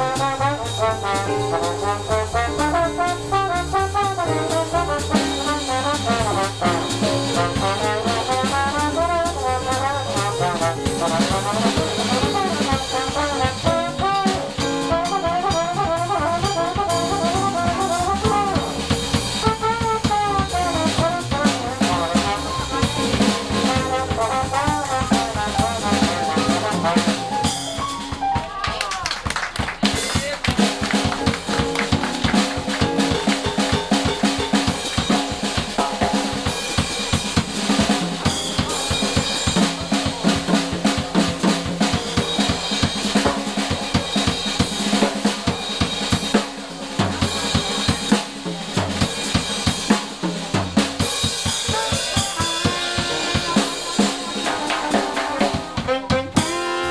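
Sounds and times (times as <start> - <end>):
trombone and trumpet: 0.0 - 28.2, 30.6 - 56.9
drum kit: 0.0 - 56.9.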